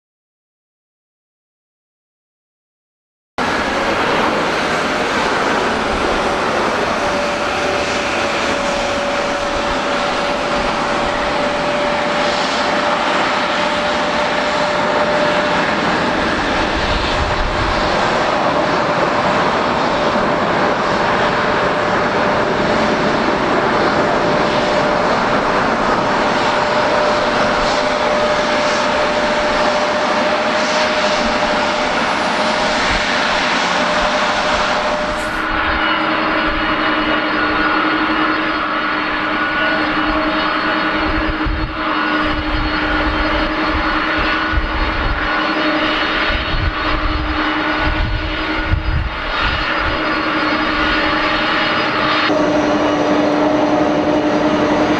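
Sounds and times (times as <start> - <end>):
jet engines running at low power: 3.4 - 54.9.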